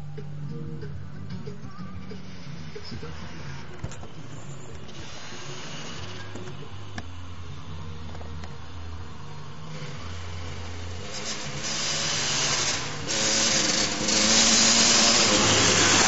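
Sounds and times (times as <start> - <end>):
motocross bike engine running: 2.1 - 16.0.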